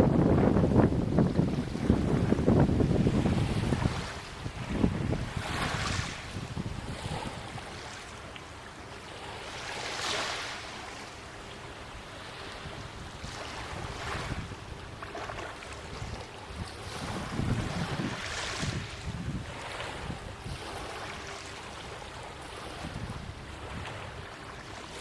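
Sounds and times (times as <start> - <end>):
wind rumble on microphone: 0.0 - 8.0, 11.8 - 25.0
small waves washing ashore: 0.0 - 25.0.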